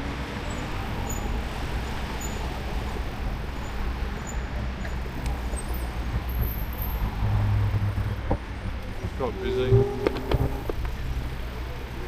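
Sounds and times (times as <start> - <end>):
bike tyre noise: 0.2 - 12.0.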